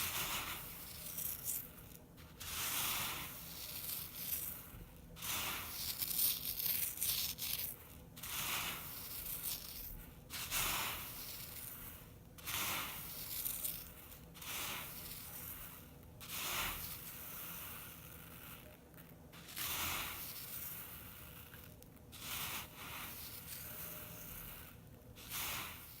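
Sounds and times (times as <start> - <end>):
sand and gravel gritty hissing: 0.0 - 26.0.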